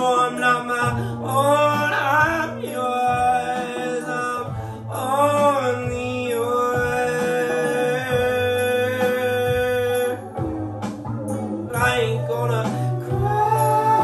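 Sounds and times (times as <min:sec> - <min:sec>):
held instrumental notes: 0:00.0 - 0:14.0
person singing: 0:00.0 - 0:14.0.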